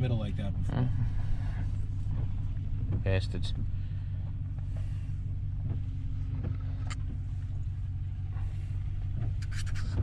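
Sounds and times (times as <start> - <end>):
car engine and tyres rumbling: 0.0 - 10.0
faint steady hum: 0.0 - 10.0.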